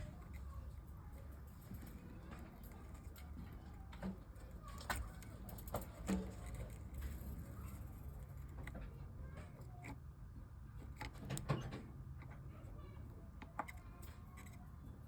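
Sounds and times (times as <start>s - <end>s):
small tools clicking and tapping: 0.0s - 10.1s, 10.7s - 15.0s.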